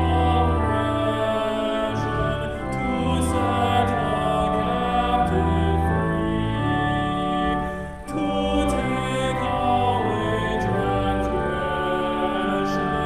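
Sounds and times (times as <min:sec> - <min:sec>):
hymn singing: 0:00.0 - 0:13.0
sustained accompaniment: 0:00.0 - 0:13.0.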